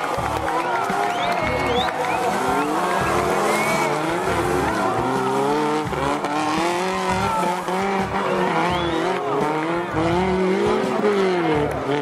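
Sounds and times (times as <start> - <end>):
off-road engines revving: 0.0 - 12.0.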